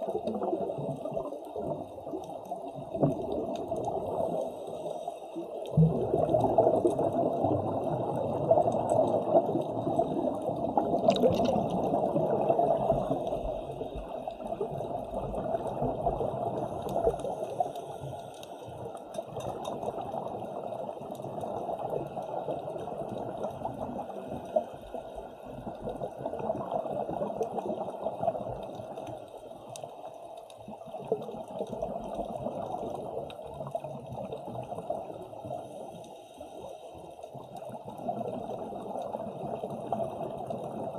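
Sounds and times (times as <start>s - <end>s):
water sloshing and bubbling: 0.0s - 40.9s.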